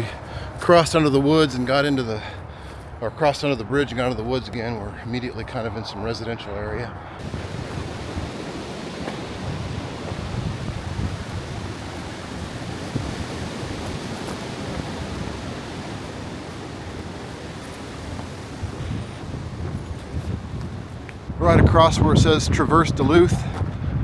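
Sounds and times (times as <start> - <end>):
outdoor rushing noise: 3.5 - 23.9.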